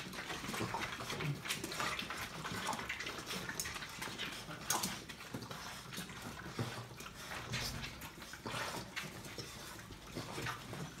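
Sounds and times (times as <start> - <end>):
puppies licking metal bowl: 0.0 - 11.0.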